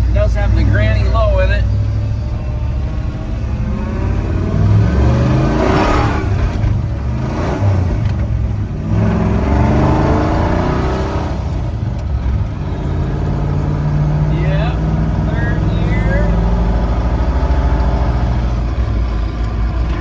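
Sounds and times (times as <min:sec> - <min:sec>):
pickup truck engine accelerating: 0:00.0 - 0:20.0.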